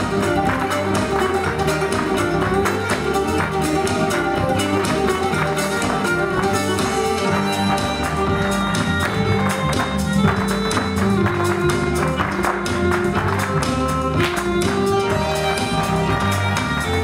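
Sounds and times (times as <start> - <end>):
dance music playing: 0.0 - 17.0
dancers' shoes clicking on stage: 0.0 - 17.0.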